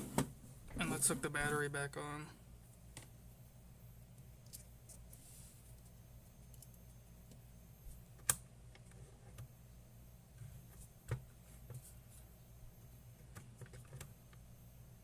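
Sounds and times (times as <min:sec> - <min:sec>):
faint low electrical hum: 0:00.0 - 0:15.0.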